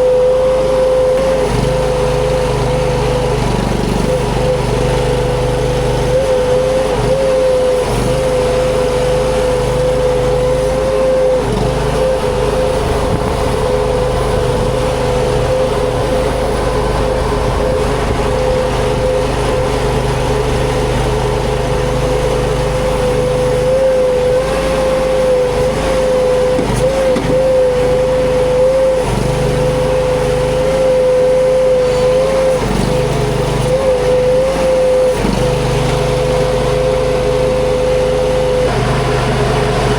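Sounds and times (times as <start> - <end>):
skid steer engine at high revs: 0.0 - 39.9.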